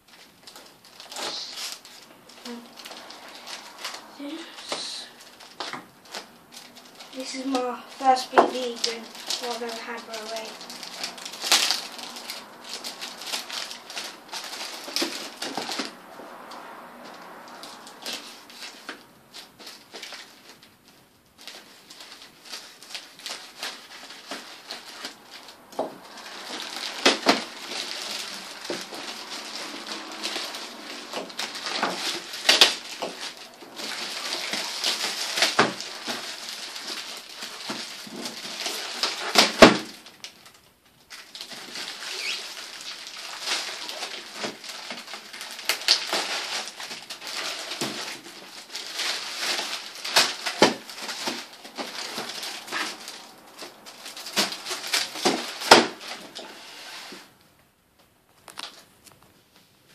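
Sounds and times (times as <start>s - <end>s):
plastic crinkling and rustling: 0.0s - 59.9s
plastic tearing cracks: 0.1s - 56.6s, 58.3s - 59.3s.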